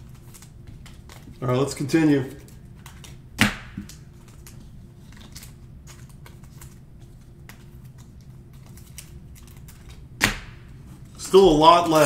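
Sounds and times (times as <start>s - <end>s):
cards flicked and shuffled: 0.0s - 12.0s.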